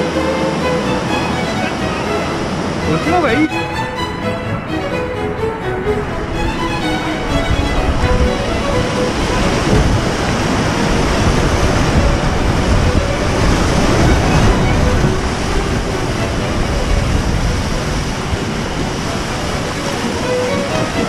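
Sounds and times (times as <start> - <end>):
whitewater rapids roaring: 0.0 - 21.0.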